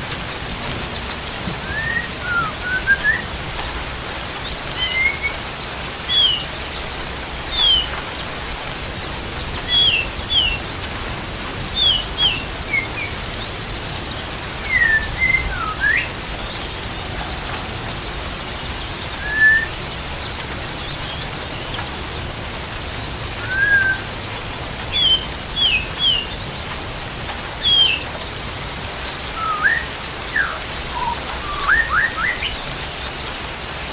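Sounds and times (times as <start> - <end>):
birds chirping: 0.0 - 33.9
steady hiss: 0.0 - 33.9.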